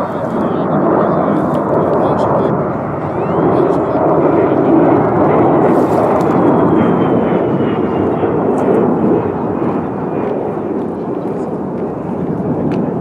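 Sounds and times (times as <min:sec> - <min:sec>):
high whine falling in pitch: 0:00.0 - 0:13.0
jet engine rumble: 0:00.0 - 0:13.0.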